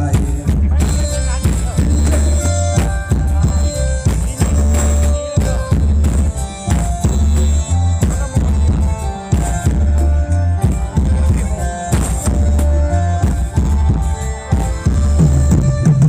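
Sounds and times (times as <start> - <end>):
bass guitar: 0.0 - 16.0
drum kit beat: 0.0 - 16.0
live band dance music: 0.0 - 16.0.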